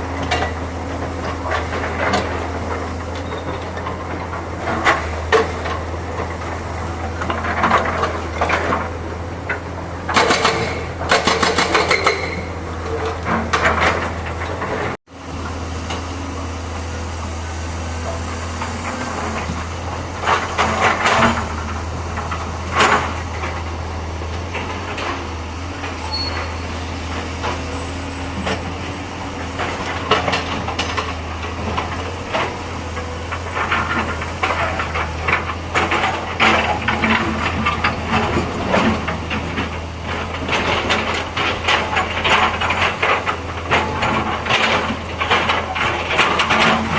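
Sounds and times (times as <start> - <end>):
excavator diesel engine running: 0.0 - 46.9
machine knocks and clatter: 0.2 - 15.0, 18.0 - 46.9.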